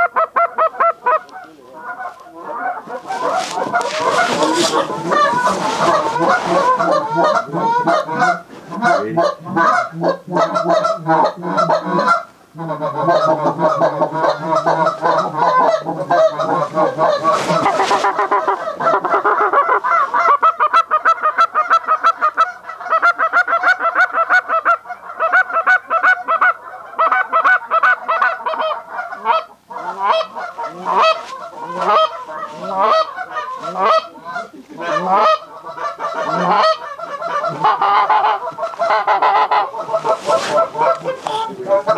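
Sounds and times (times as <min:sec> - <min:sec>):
geese honking: 0:00.0 - 0:41.9.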